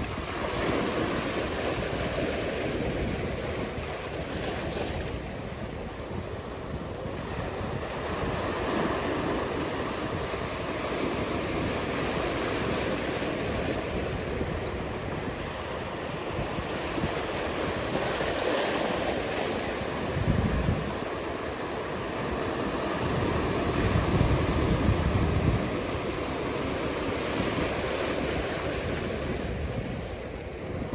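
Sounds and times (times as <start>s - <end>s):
waves breaking: 0.0s - 30.9s
wind: 0.0s - 30.9s.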